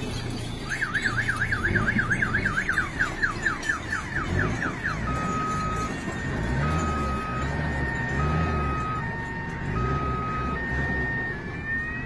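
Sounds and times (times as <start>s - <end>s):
low engine rumble: 0.0s - 12.0s
electronic multi-tone siren: 0.6s - 12.0s.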